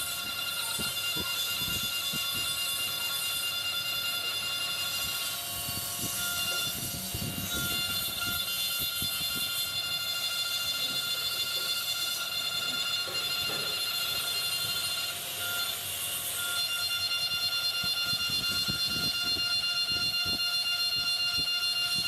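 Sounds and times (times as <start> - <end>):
engraving spindle whine: 0.0 - 22.0.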